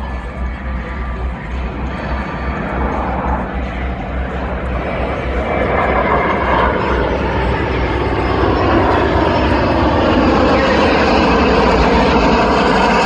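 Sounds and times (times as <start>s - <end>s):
jet engines passing overhead: 0.0s - 13.0s
propeller plane engines: 0.0s - 13.0s.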